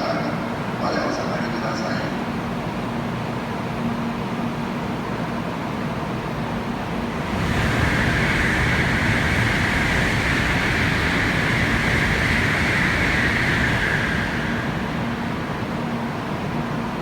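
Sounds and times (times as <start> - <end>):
train rushing hiss and rumble: 0.0 - 17.0.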